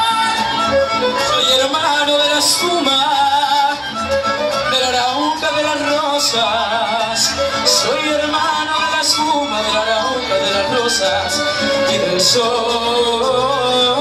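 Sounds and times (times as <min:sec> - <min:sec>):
strummed guitars: 0:00.0 - 0:14.0
violins with vibrato: 0:00.0 - 0:14.0.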